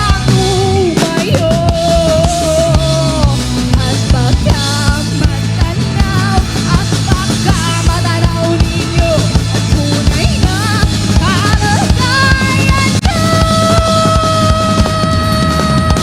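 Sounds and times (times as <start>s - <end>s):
drum kit beat: 0.0s - 16.0s
live rock band playing: 0.0s - 16.0s.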